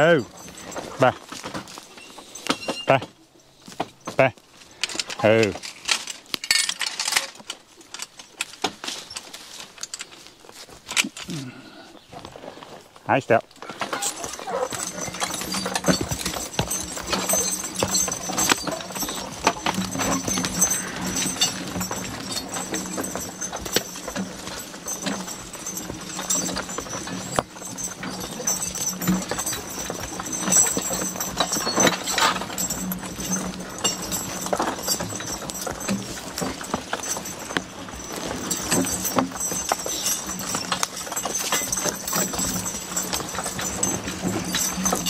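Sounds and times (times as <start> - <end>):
cart and harness clatter: 0.0 - 45.0
hooves clopping on dirt: 0.0 - 45.0
logs dragging: 0.0 - 45.0.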